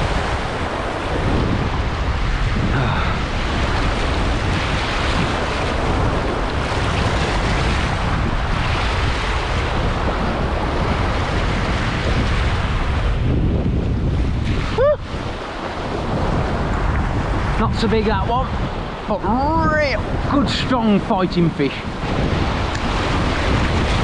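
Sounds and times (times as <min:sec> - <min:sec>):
waves breaking over rocks: 0:00.0 - 0:24.0
wind buffeting microphone: 0:00.0 - 0:24.0.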